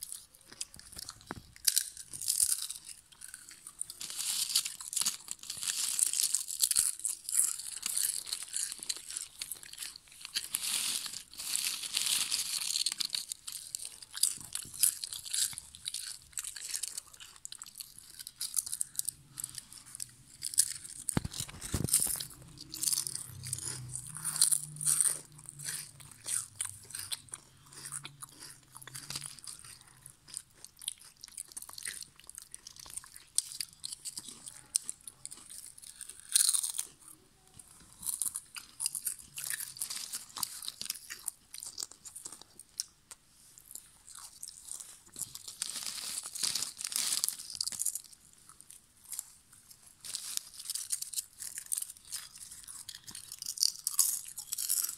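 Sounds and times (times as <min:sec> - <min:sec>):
potato chips being chewed: 0:00.0 - 0:54.9.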